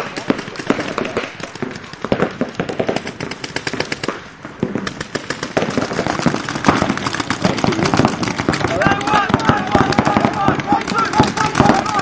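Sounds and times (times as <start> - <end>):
paintball markers firing rapidly: 0.0 - 12.0.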